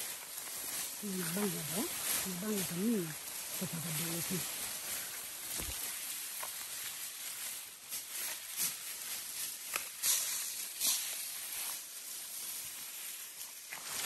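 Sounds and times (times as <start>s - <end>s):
grass swishing and crackling: 0.0s - 14.0s.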